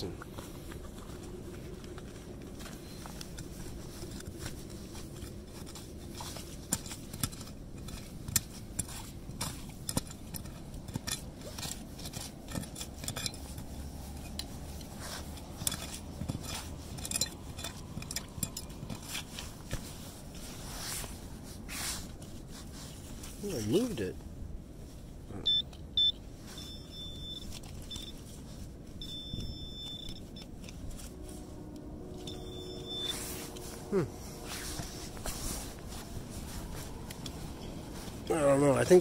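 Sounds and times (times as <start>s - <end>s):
knife scraping frozen ground: 2.7s - 23.7s, 27.5s - 39.0s.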